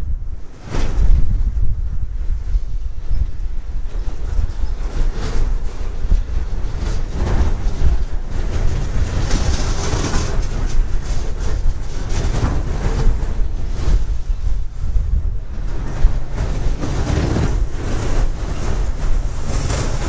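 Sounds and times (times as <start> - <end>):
train wheels rumbling on rails: 0.0 - 20.0
wheels clicking over rail joints: 2.7 - 20.0.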